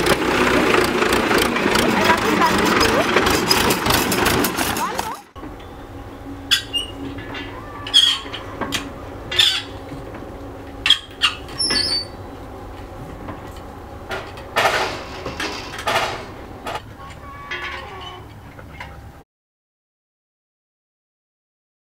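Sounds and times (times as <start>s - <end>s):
winch squeaking: 0.0s - 19.2s.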